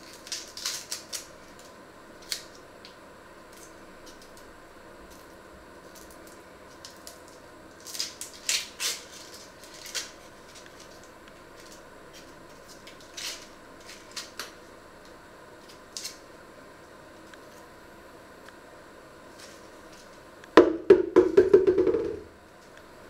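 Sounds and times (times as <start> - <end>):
onion skins crackling and rustling: 0.0 - 17.8, 19.2 - 20.3.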